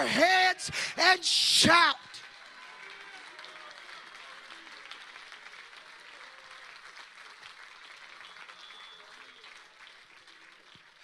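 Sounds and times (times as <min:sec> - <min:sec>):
congregation clapping: 0:00.0 - 0:11.0.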